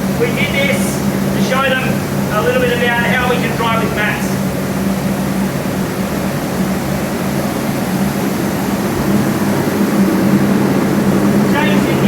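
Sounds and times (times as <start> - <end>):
low machine hum: 0.0 - 12.0
rush of air from blowers: 0.0 - 12.0.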